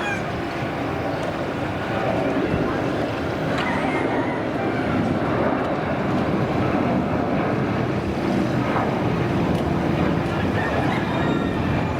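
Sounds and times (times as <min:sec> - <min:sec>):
jet engines roaring: 0:00.0 - 0:11.9.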